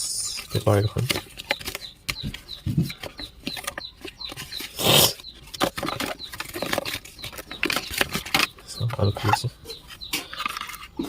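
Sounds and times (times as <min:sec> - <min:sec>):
bird chirping: 0:00.0 - 0:11.0
loud paper crinkle: 0:00.4 - 0:11.0
paper and packaging rustling: 0:00.4 - 0:11.0.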